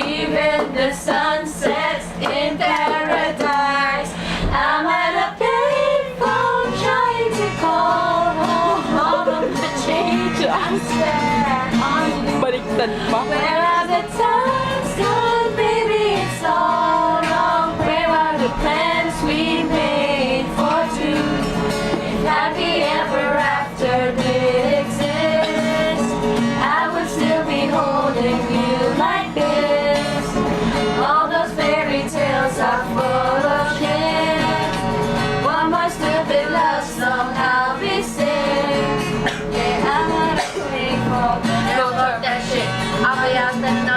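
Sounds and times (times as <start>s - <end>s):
guitar accompaniment: 0.0s - 43.9s
person singing pop song: 0.0s - 43.9s.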